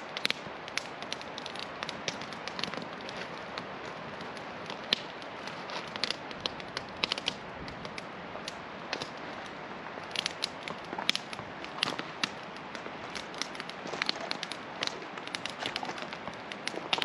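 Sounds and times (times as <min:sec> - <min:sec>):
campfire crackling and popping: 0:00.0 - 0:17.0
river rushing: 0:00.0 - 0:17.0.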